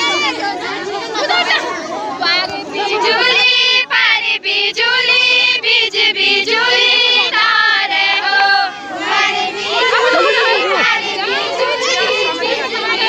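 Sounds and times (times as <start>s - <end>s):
women singing folk song: 2.2s - 13.0s.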